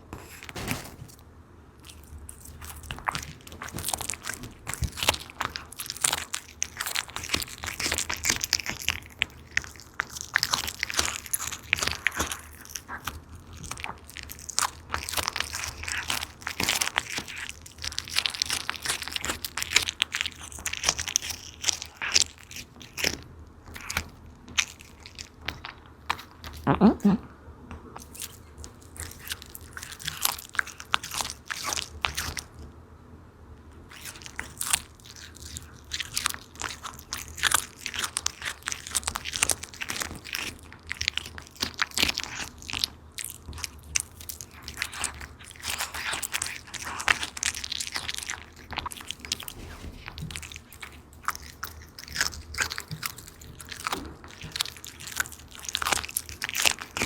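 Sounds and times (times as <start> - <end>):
cat crunching on fish: 1.8 - 26.8, 28.0 - 32.6, 33.8 - 57.0.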